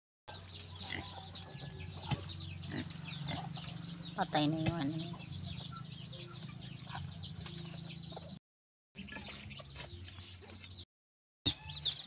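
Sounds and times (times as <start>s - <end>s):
birds chirping: 0.3s - 8.4s, 9.0s - 10.9s.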